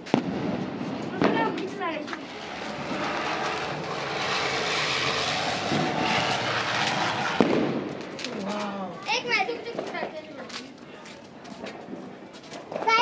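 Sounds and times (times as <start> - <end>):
firework spinner hissing: 0.1 - 10.7.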